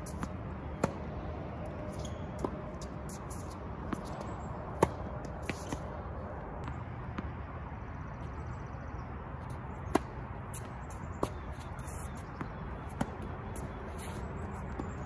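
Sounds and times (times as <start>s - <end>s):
tennis ball bouncing on hard court: 0.0s - 7.4s, 9.4s - 15.0s
outdoor background noise: 0.0s - 15.0s
tennis ball struck by rackets: 0.1s - 7.3s, 9.8s - 15.0s.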